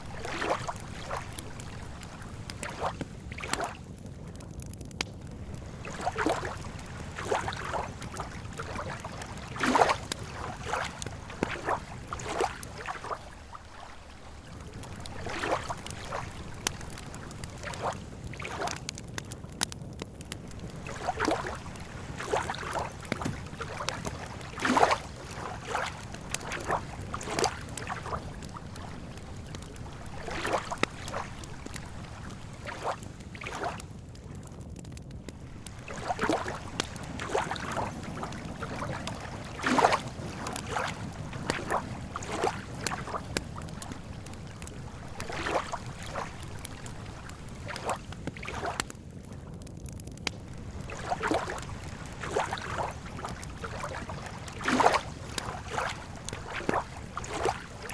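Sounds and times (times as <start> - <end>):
waves lapping against shore: 0.0 - 34.3, 35.2 - 49.6, 50.2 - 57.9.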